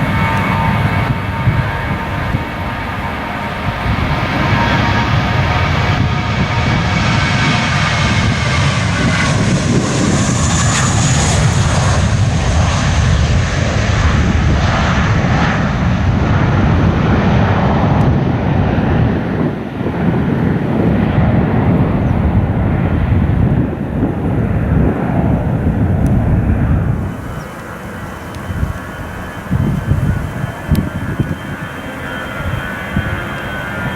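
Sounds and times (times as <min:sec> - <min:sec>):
jet airliner taking off: 0:00.0 - 0:33.9.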